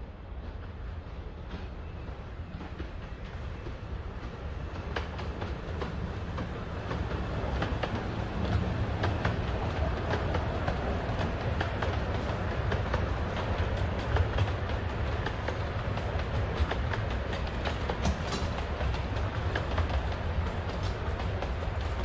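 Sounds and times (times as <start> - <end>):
miniature steam train rumble: 0.0 - 22.0
wheels clattering on rails: 0.4 - 22.0.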